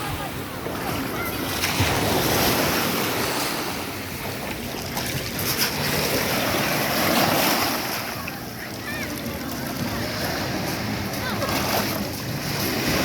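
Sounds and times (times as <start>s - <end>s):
sea surf washing ashore: 0.0s - 13.0s.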